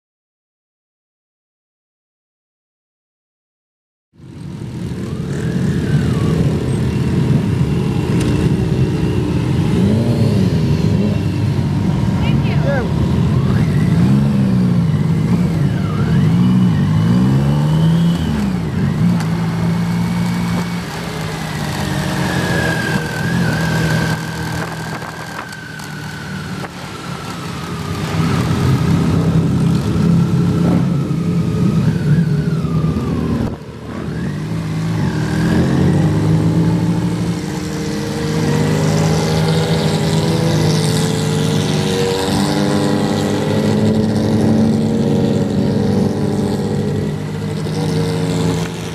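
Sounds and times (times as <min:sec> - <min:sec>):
motorcycle engine revving: 0:04.2 - 0:48.9.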